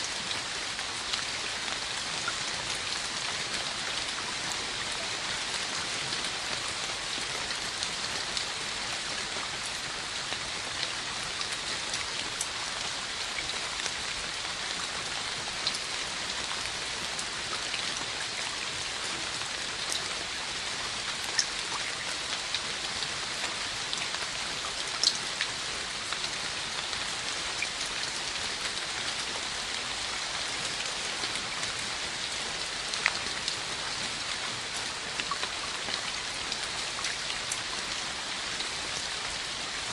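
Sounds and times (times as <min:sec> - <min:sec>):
sharp close raindrops: 0:00.0 - 0:39.9
steady rain hiss: 0:00.0 - 0:39.9.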